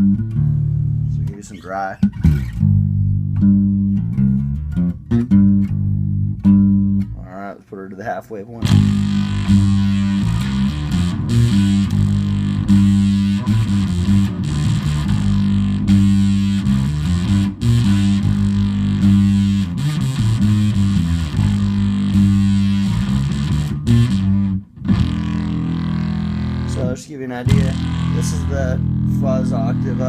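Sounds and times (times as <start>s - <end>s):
fuzz bass guitar notes: 0.0s - 30.0s.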